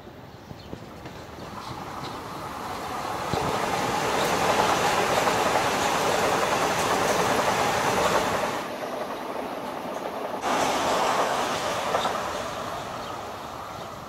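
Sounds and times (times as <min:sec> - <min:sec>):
electric train passing at speed: 0:00.0 - 0:14.0
steel wheels rumbling on rails: 0:00.7 - 0:14.0.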